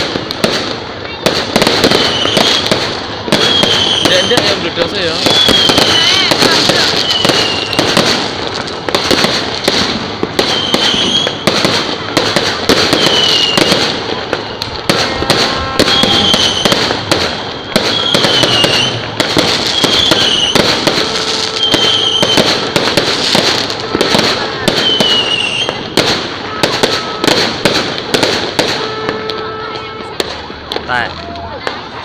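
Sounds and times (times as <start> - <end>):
fireworks bangs and crackle: 0.0 - 32.0.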